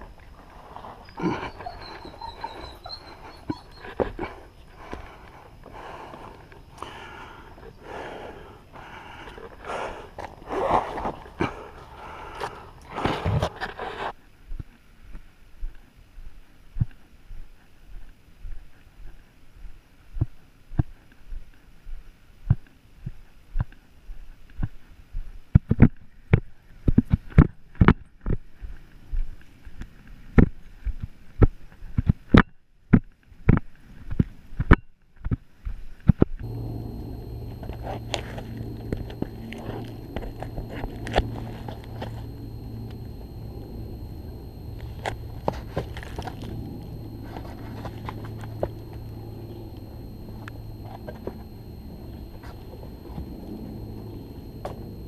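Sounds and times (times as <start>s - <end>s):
low hum: 0.0s - 25.4s, 36.2s - 55.0s.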